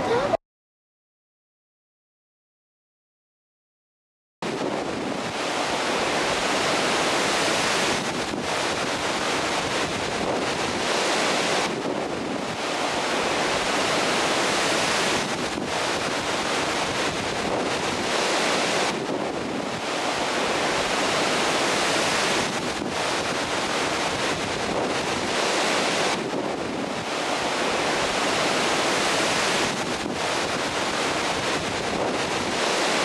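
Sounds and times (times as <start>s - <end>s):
strong wind on microphone: 4.4s - 33.0s
surf breaking on shore: 4.4s - 33.0s.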